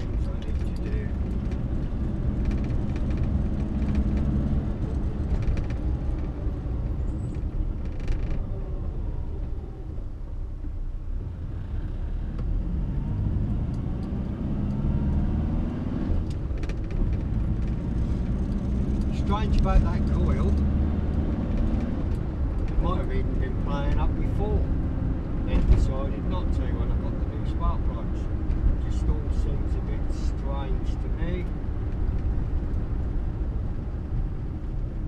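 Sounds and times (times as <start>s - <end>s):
car engine from inside cabin: 0.0s - 35.0s
road noise: 0.0s - 35.0s.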